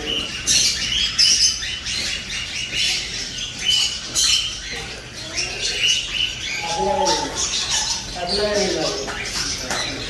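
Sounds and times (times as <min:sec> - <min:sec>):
caged birds chirping and squawking: 0:00.0 - 0:10.0.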